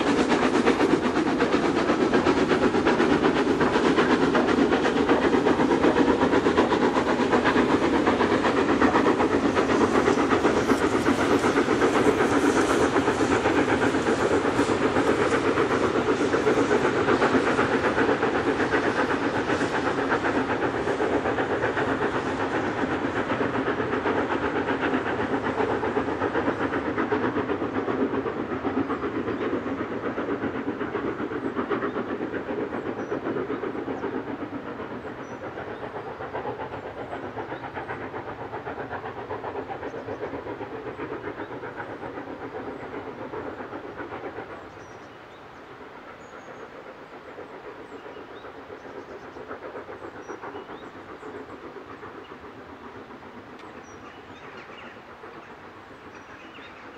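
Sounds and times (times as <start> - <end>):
steam locomotive exhaust beat: 0.0 - 56.9.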